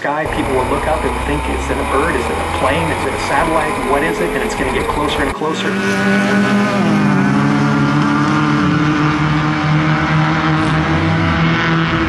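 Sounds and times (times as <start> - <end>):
race vehicle engine running: 0.0 - 12.0.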